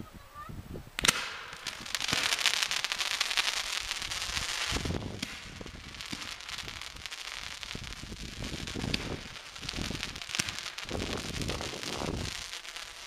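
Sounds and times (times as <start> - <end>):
fireworks crackling: 0.1 - 13.0.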